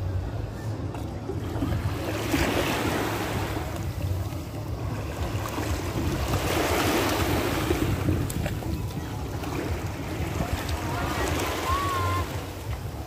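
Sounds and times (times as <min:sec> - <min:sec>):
wind rumbling on microphone: 0:00.0 - 0:13.0
small waves washing ashore: 0:00.8 - 0:13.0.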